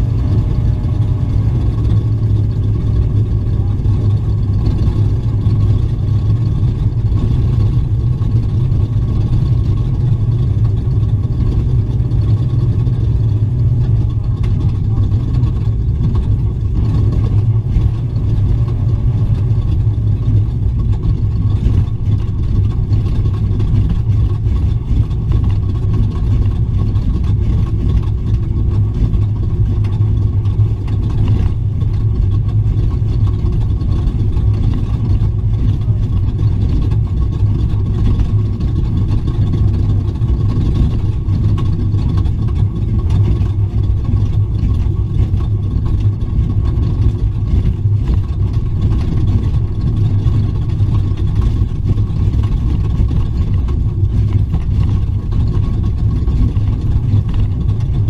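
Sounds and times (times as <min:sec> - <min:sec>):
road and chassis noise: 0:00.0 - 0:58.0
truck engine drone: 0:00.0 - 0:58.0.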